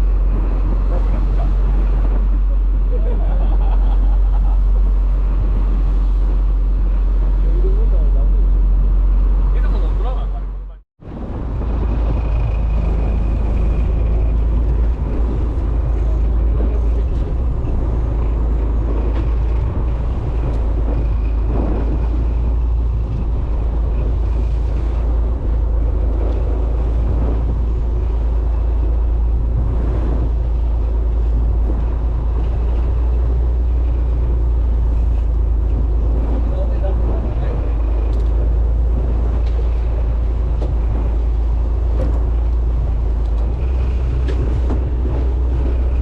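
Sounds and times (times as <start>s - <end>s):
boat engine rumbling: 0.0s - 46.0s.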